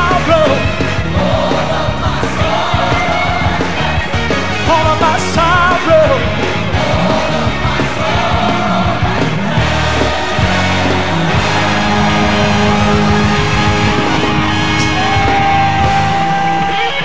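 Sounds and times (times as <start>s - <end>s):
heavy bass line: 0.0s - 17.0s
live gospel band music: 0.0s - 17.0s.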